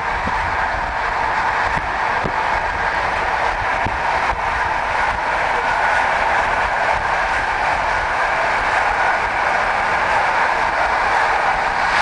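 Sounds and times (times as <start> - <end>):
train rushing and rumbling: 0.0 - 12.0.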